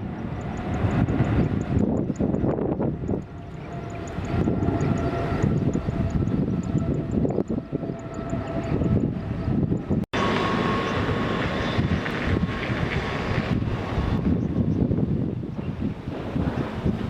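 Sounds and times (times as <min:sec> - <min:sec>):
jet engines whining rumble: 0:00.0 - 0:17.0.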